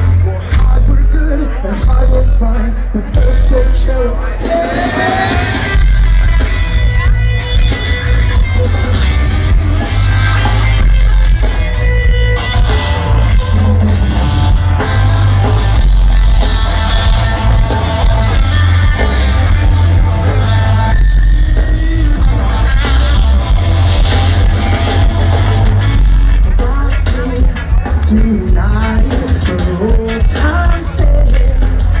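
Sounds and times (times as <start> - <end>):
electric guitar: 0.0 - 32.0
heavy bass: 0.0 - 32.0
drum kit: 3.1 - 32.0.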